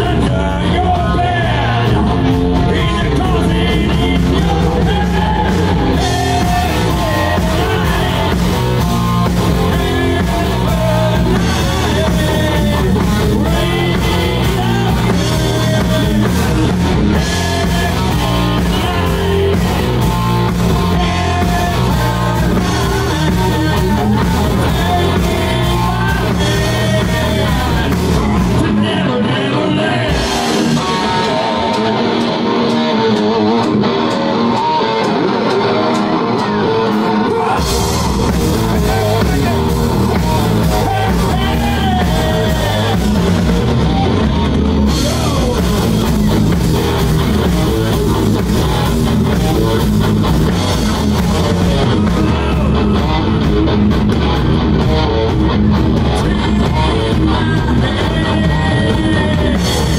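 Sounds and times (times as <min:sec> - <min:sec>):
man singing: 0:00.0 - 0:53.6, 0:55.9 - 0:59.9
drum kit: 0:00.0 - 0:59.9
electric guitars: 0:00.0 - 0:59.9.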